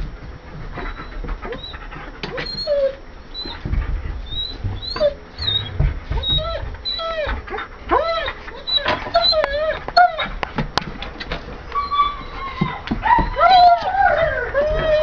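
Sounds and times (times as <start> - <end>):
knocks and scuffling: 0.0 - 15.0
dogs whining: 0.7 - 10.5, 11.6 - 15.0.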